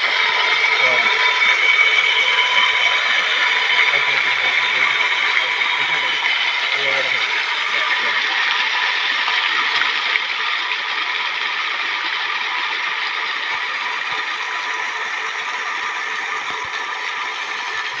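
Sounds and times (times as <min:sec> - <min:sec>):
water jet splashing onto pond: 0:00.0 - 0:18.0
water pump running: 0:00.0 - 0:18.0.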